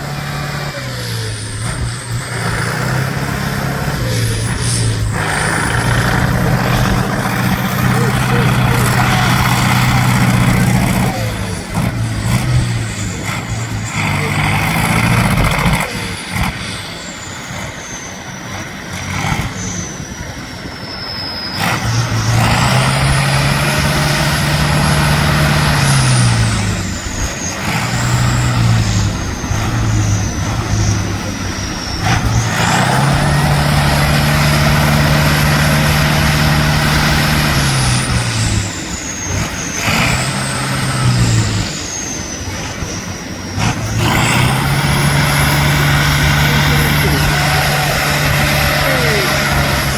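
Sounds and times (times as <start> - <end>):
diesel engine revving: 0.0 - 49.9
high whistle: 0.0 - 49.9.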